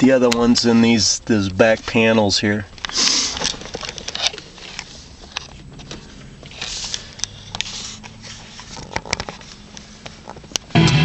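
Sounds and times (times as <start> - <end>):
clicks and rustling of handling: 0.0 - 10.7.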